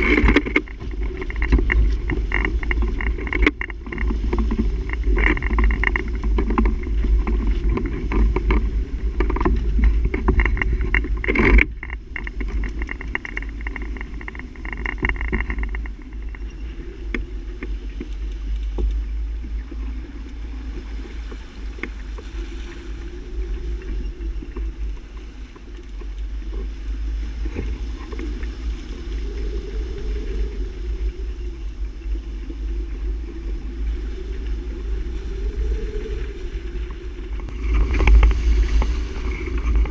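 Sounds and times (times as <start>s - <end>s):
water rushing along hull: 0.0s - 39.9s
wind buffeting microphone: 0.0s - 39.9s.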